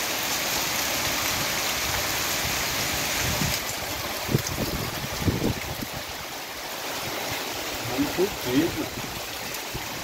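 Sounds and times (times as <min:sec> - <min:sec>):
gutter runoff splashing on concrete: 0:00.0 - 0:10.0
heavy rain falling: 0:00.0 - 0:10.0.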